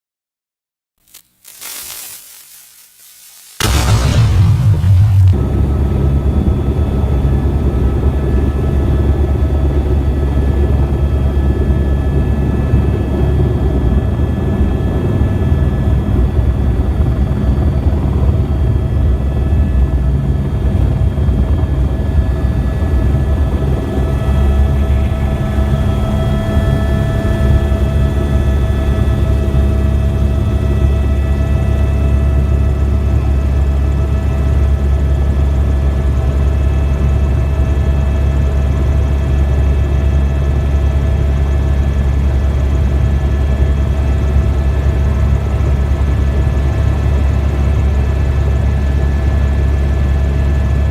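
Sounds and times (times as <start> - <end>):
helicopter rotor and engine drone: 5.4 - 50.9.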